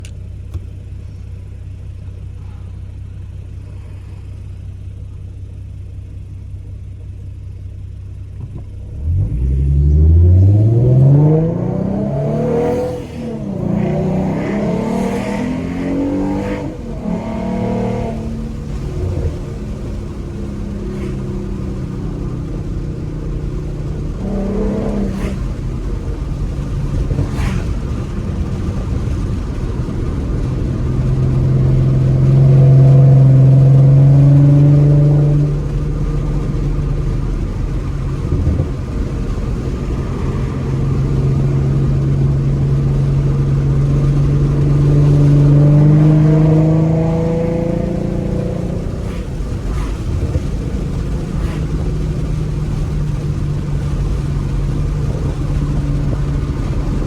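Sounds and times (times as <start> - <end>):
car exhaust note under throttle: 0.0 - 57.0.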